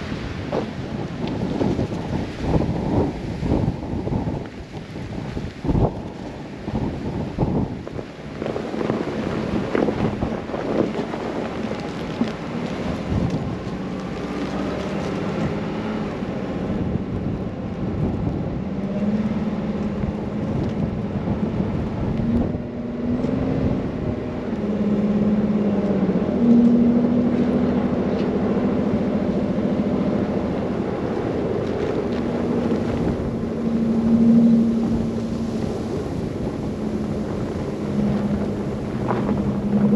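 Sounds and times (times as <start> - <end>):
wind rushing: 0.0 - 14.3, 15.2 - 39.9
car engine hum: 0.0 - 39.9
road noise: 0.0 - 39.9.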